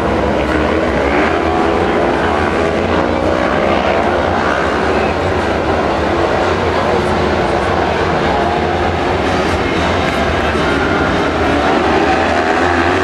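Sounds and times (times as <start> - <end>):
racing engines revving: 0.0 - 13.0.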